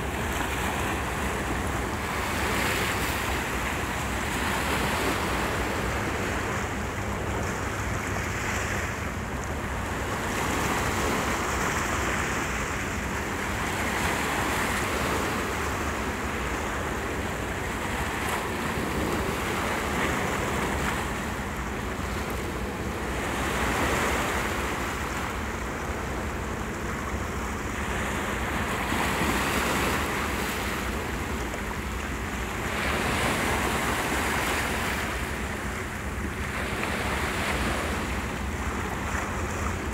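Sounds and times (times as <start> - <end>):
waves washing over rocks: 0.0 - 39.9.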